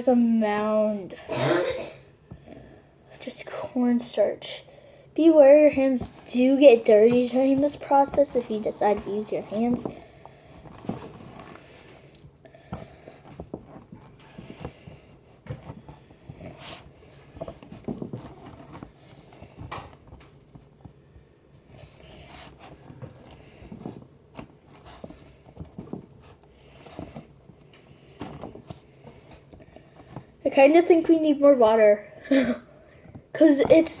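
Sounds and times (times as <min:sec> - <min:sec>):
hands squishing thick mix: 0:05.2 - 0:32.0, 0:32.9 - 0:34.0.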